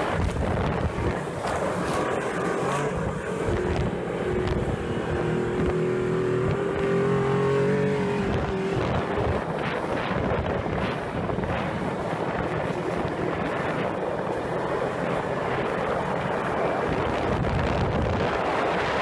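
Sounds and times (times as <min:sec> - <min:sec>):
snowmobile engine running: 0:00.0 - 0:19.0
wind buffeting microphone: 0:00.0 - 0:19.0.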